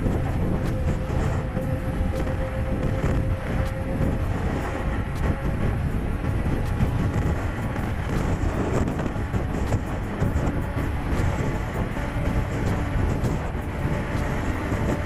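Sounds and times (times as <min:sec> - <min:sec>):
bike tyre noise: 0:00.0 - 0:15.0
wind rumble on microphone: 0:00.0 - 0:15.0.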